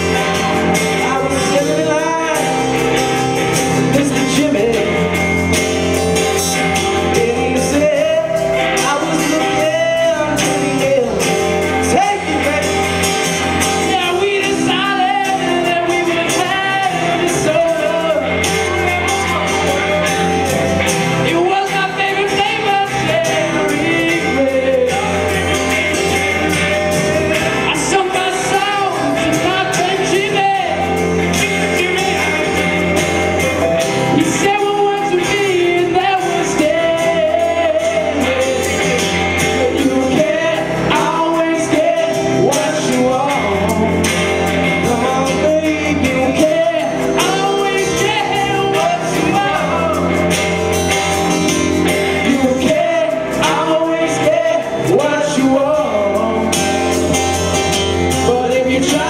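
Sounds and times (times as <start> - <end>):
bass guitar: 0.0 - 59.0
electric guitars: 0.0 - 59.0
person singing: 0.0 - 59.0.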